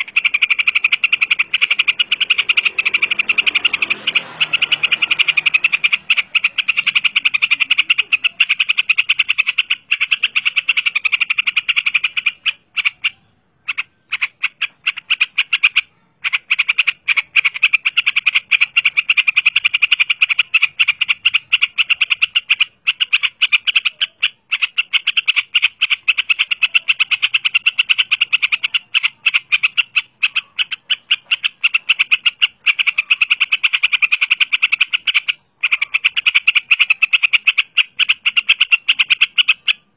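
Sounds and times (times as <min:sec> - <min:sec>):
bird rattling chatter: 0:00.0 - 0:39.9.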